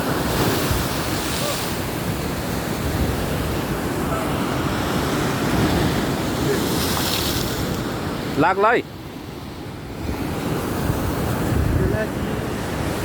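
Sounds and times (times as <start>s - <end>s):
wind buffeting microphone: 0.0s - 8.1s, 9.6s - 13.0s
sea waves rushing: 0.0s - 13.0s.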